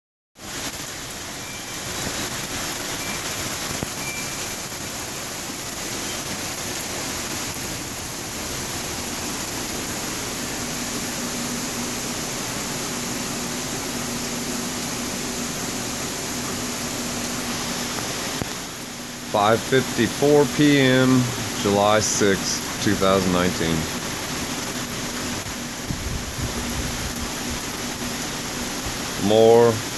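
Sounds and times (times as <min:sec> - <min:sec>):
heavy rain pouring: 0:00.4 - 0:29.9.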